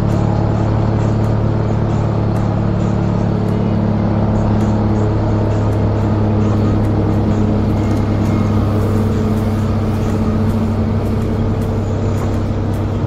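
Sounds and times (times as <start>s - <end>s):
minibus engine and road drone: 0.0s - 13.0s.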